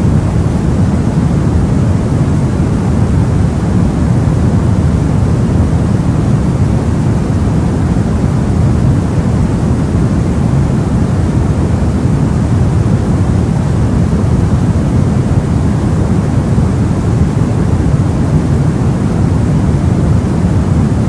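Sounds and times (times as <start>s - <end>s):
deep rumbling white noise: 0.0s - 21.0s.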